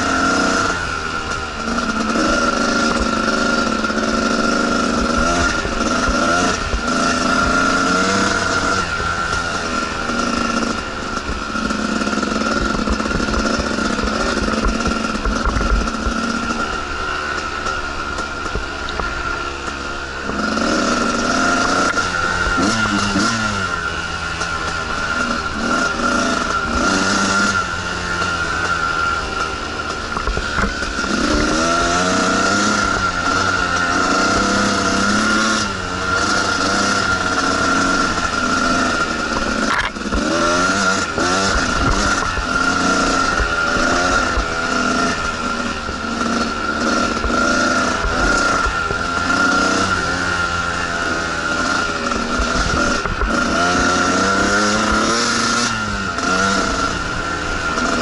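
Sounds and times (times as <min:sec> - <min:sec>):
two-stroke dirt bike engine revving: 0:00.0 - 0:58.0.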